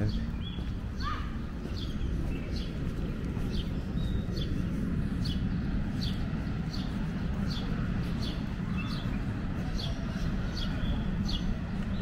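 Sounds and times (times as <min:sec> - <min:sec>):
bird chirping: 0:00.0 - 0:12.0
steady low rumble: 0:00.0 - 0:12.0.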